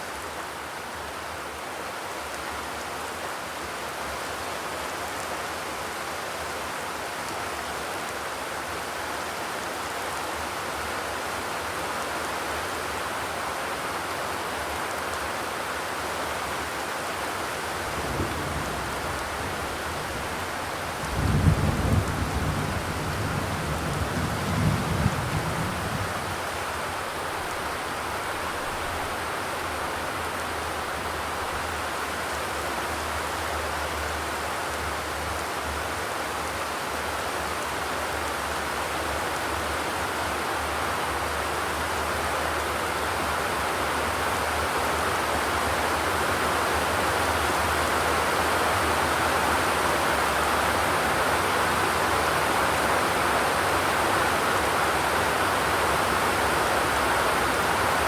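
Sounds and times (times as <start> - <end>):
rain drumming on a metal roof: 0.2 - 58.0.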